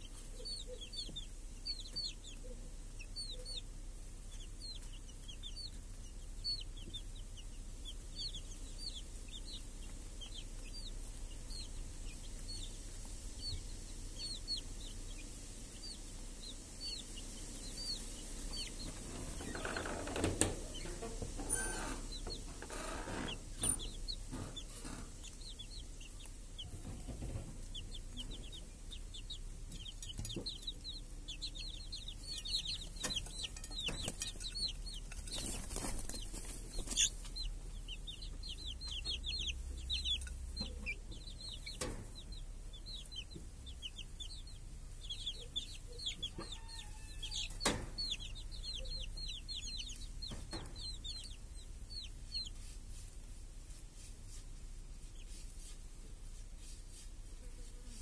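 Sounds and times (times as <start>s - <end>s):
hen clucking: 0.0s - 53.4s
chicks peeping: 0.0s - 58.0s.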